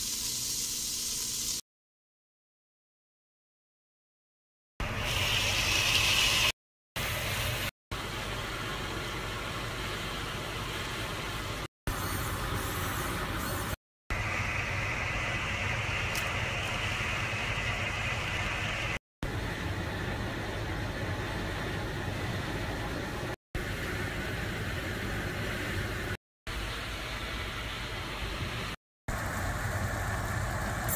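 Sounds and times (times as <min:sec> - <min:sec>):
mechanical hum with hiss: 0:04.8 - 0:30.9.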